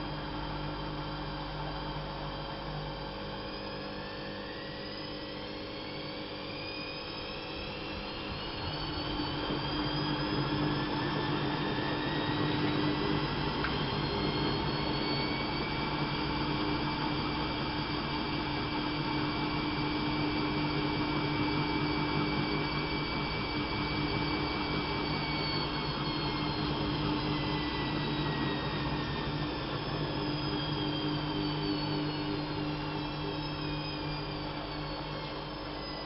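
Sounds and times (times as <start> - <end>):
high motor whine: 0.0 - 36.0
washing machine running: 0.0 - 36.0.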